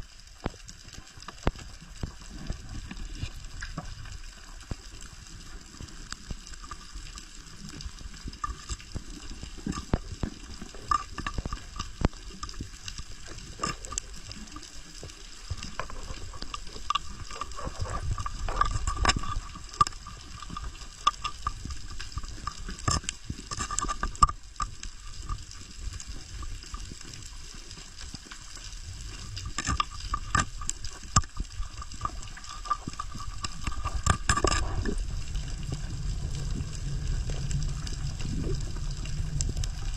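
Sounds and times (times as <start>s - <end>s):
sharp clicks and crackles: 0.0s - 39.9s
underwater rumble: 0.0s - 39.9s.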